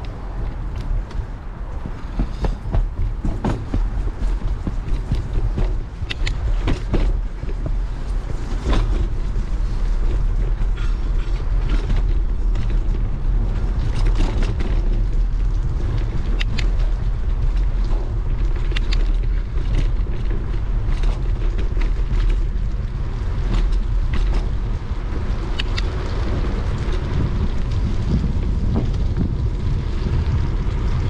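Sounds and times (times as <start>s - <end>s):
bicycle clicks and rattles: 0.0s - 31.0s
bicycle tyres rolling: 0.0s - 31.0s
wind on microphone: 0.0s - 31.0s.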